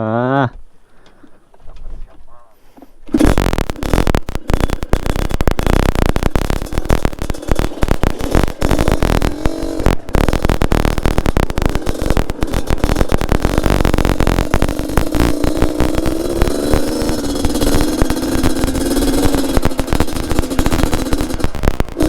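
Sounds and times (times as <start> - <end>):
two-stroke engine under load: 3.1 - 22.0.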